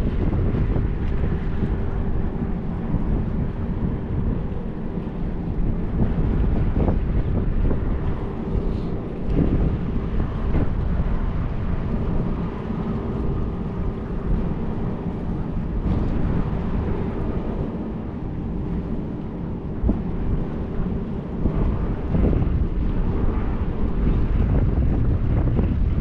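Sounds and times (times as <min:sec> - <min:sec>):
faint steady hum: 0:00.0 - 0:26.0
wind buffeting microphone: 0:00.0 - 0:26.0.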